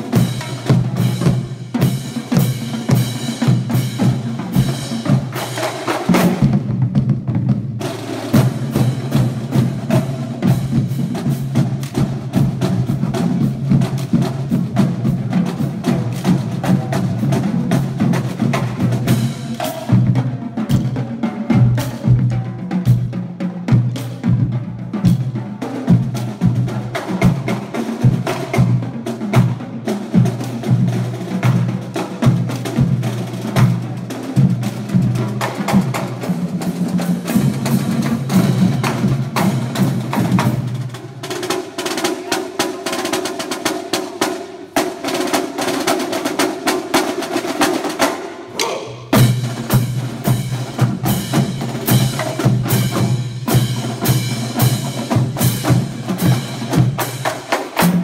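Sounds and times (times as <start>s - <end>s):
marching drumline playing: 0.0s - 58.0s.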